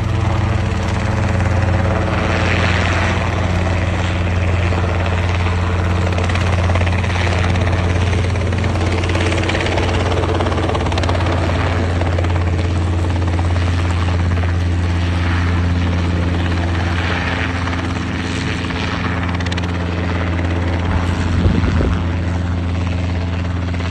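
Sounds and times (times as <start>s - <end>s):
helicopter rotor beating: 0.0s - 23.9s.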